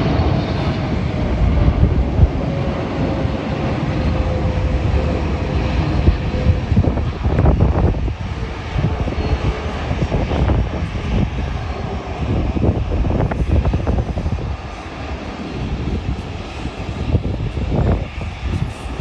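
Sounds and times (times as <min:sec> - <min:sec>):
jet airliner engines roaring: 0:00.0 - 0:19.0.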